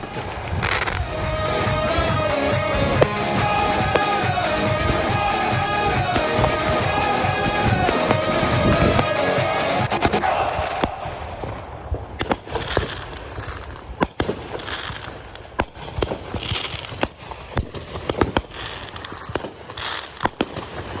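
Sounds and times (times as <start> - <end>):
fireworks bangs and pops: 0.0 - 21.0
fireworks crackling: 0.0 - 21.0.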